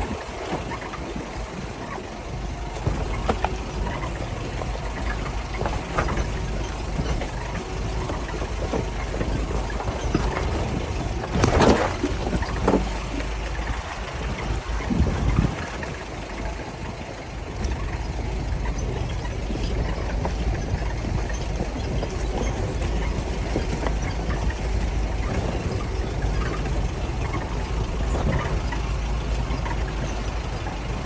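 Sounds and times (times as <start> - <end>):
engine low rumble: 0.0 - 31.0
vehicle creaking and squeaking: 0.0 - 31.0.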